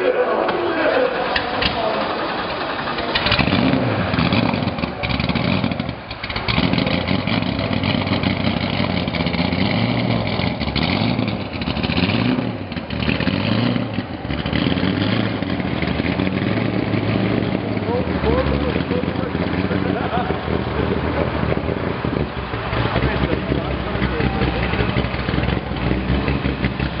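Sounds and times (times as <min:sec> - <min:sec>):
race car engine revving: 0:00.4 - 0:27.0.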